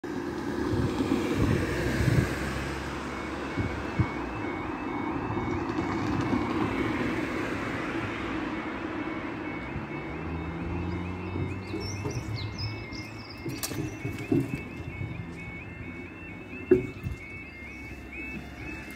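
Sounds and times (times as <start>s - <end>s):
level crossing warning alarm: 0.0s - 18.9s
road traffic: 0.0s - 18.9s
vehicle passing: 0.6s - 18.9s.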